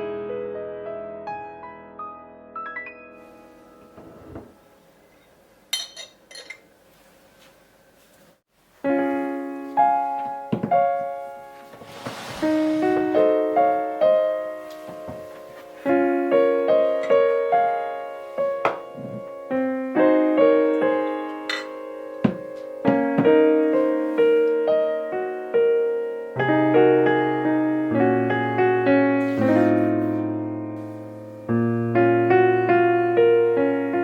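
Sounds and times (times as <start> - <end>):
gentle piano music: 0.0 - 6.5, 8.8 - 34.0.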